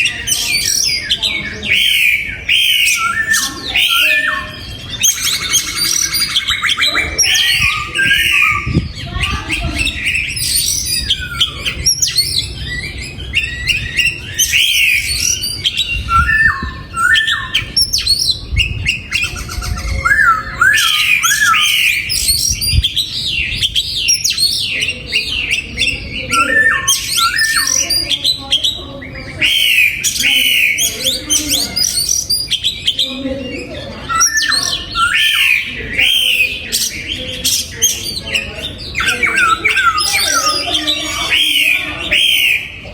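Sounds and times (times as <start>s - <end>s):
bird singing whistled phrases: 0.0s - 42.8s.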